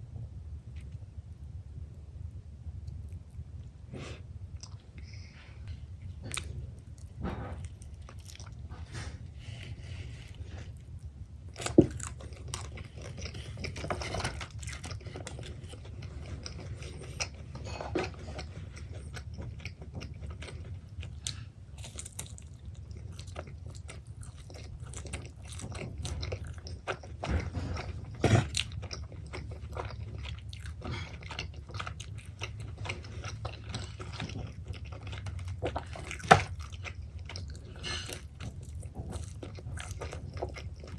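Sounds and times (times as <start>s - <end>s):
person chewing pizza: 2.6s - 40.9s.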